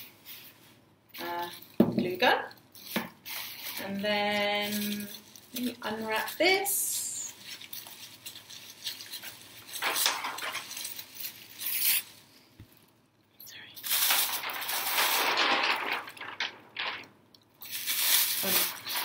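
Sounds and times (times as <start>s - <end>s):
plastic bags crinkling: 2.7s - 12.9s, 13.5s - 19.0s.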